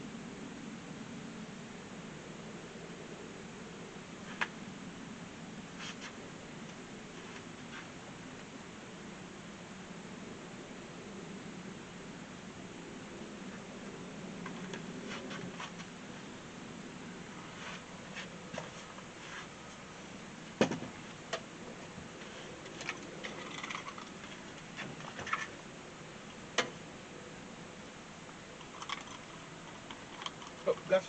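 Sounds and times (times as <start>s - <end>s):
low steady hiss: 0.0s - 31.0s.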